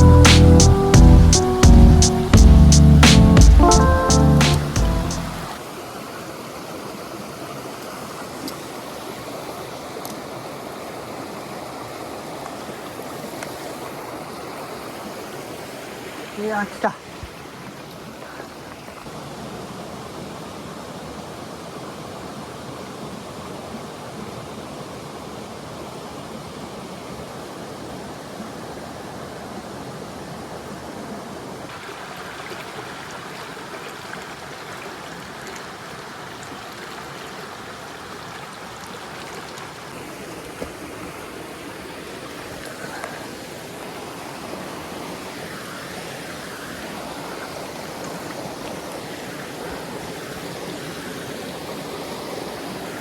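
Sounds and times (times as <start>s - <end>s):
stream running over rocks: 4.6s - 53.0s.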